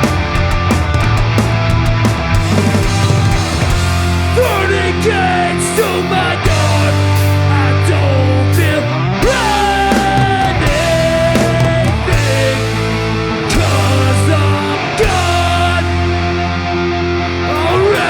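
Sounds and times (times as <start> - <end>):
hardcore band playing live: 0.0 - 18.0.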